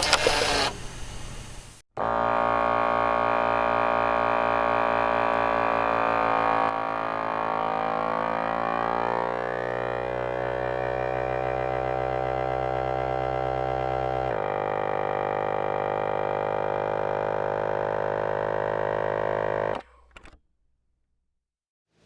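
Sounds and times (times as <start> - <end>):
motorized tool droning hum: 0.0 - 20.4.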